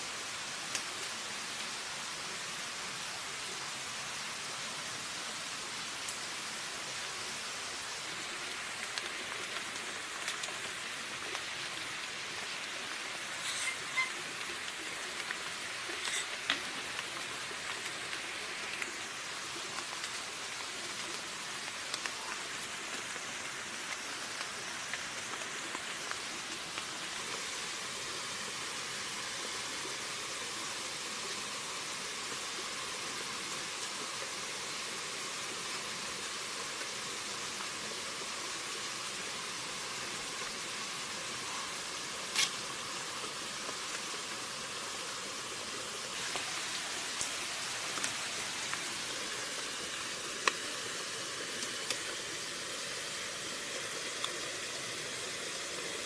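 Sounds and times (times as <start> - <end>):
steady outdoor hiss: 0.0 - 56.0.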